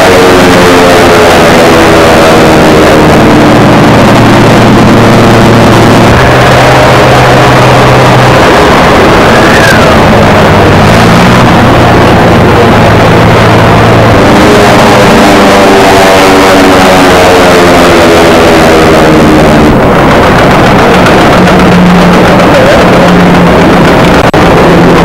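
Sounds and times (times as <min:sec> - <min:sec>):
piston aircraft engines rumbling: 0:00.0 - 0:25.0.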